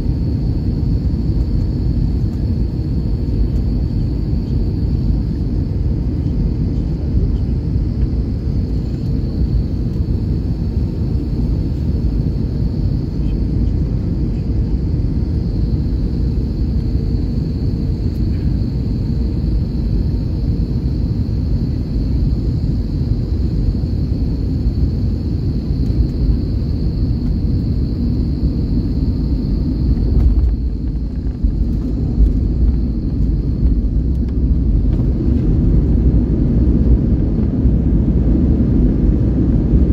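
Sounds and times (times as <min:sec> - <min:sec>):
airplane cabin engine rumble: 0:00.0 - 0:39.9
faint high whine: 0:00.0 - 0:39.9.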